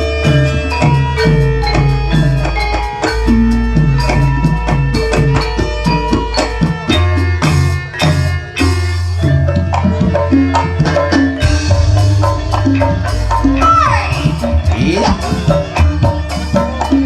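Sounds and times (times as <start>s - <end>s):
ringing metallophone notes: 0.0s - 17.0s
steady bass: 0.0s - 17.0s.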